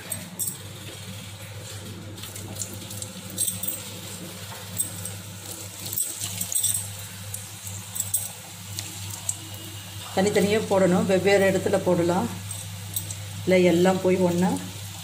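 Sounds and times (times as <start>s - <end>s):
dough balls sizzling in hot oil: 0.8s - 15.0s.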